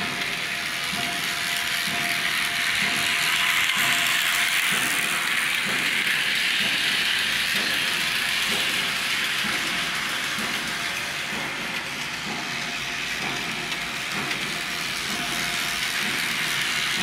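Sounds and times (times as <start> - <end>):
steel wheels hissing on rail: 0.0 - 17.0
wheels clacking over rail joints: 0.0 - 17.0.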